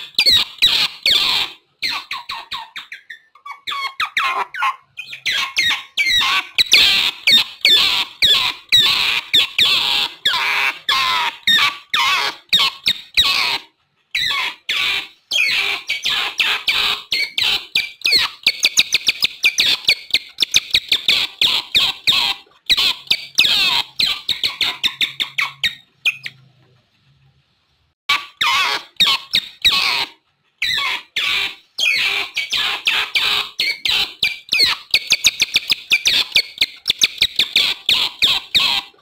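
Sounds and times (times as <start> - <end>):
otters chirping and squeaking: 0.0 - 26.7, 28.1 - 39.0.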